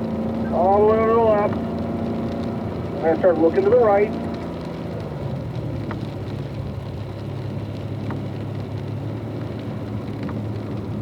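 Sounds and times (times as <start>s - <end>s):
low engine hum: 0.0s - 11.0s
rain and wet tyres hissing: 0.0s - 11.0s.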